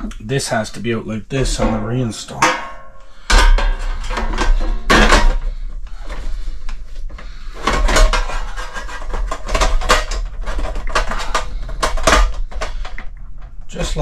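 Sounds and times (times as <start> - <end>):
heater casing knocking and clattering: 1.4 - 14.0.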